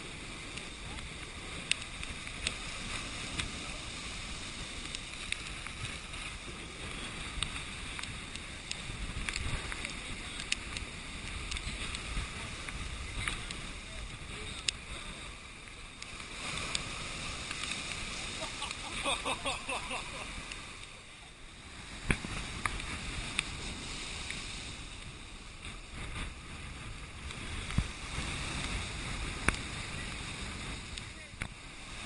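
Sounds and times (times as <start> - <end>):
storm surf breaking on sea wall: 0.0 - 32.0
wind buffeting microphone: 0.0 - 32.0.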